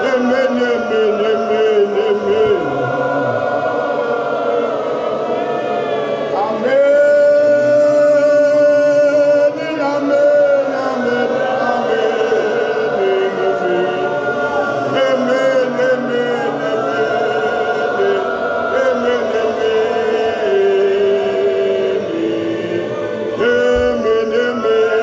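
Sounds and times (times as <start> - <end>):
man singing into a microphone: 0.0 - 3.5, 6.3 - 25.0
group singing a hymn: 0.0 - 25.0.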